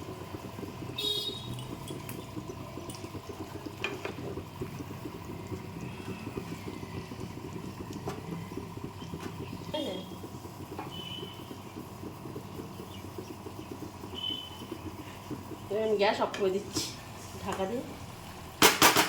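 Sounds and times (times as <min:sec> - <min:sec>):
gravy bubbling and popping: 0:00.0 - 0:19.0.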